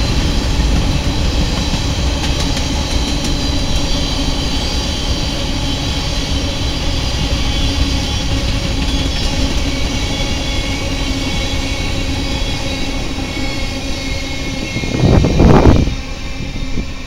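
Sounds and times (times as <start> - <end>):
freight cars rumbling on rails: 0.0 - 17.0.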